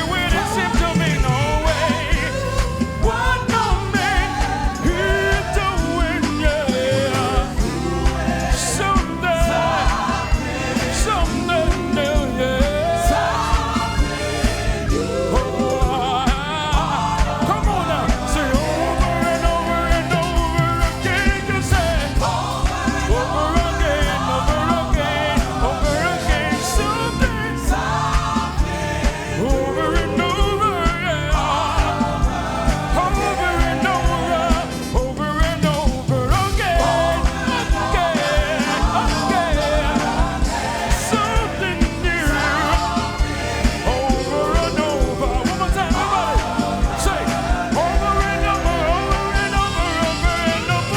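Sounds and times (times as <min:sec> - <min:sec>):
band with fast beat: 0:00.0 - 0:50.9
gospel singing voices: 0:00.0 - 0:50.9.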